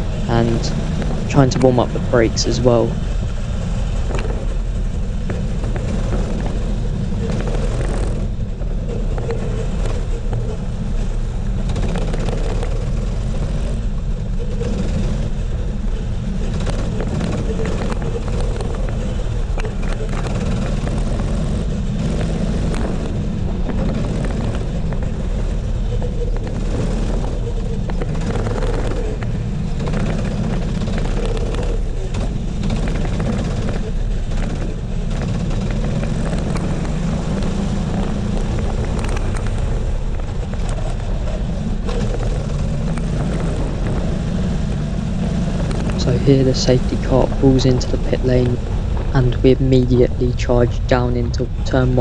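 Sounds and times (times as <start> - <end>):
go-kart engine running: 0.0 - 52.0
wind and tyre noise: 0.0 - 52.0.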